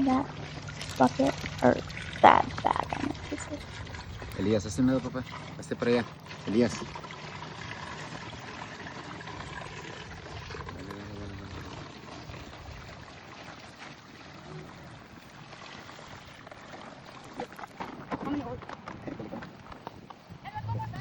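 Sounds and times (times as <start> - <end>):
water pouring from bucket: 0.0 - 19.7.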